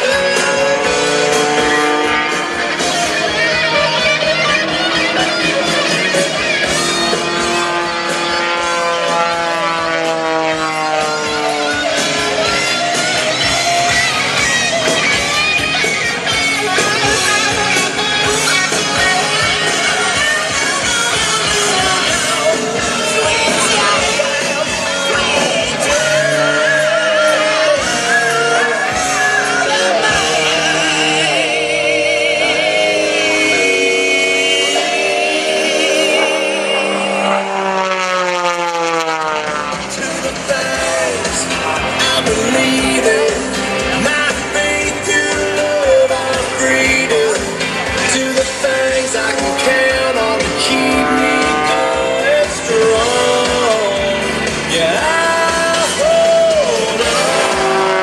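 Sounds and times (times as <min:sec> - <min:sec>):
airplane engine and propeller: 0:00.0 - 0:58.0
guitar music over loudspeakers: 0:00.0 - 0:58.0.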